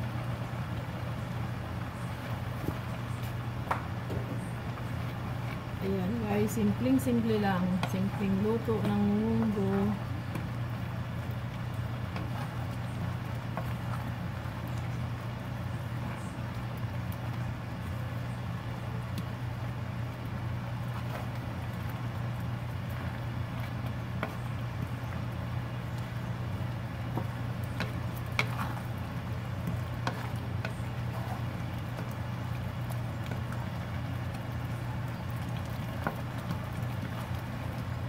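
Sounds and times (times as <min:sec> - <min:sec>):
steady low hum: 0:00.0 - 0:38.0
spatula stirring soup: 0:04.6 - 0:38.0.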